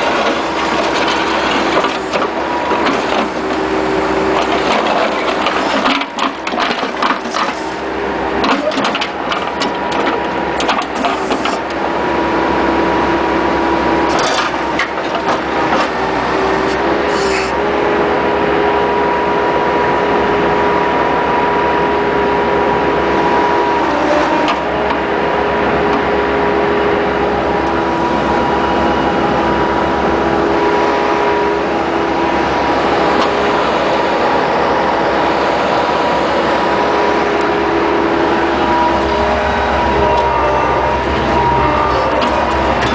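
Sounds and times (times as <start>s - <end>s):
loader engine and hydraulics whining: 0.0s - 42.9s.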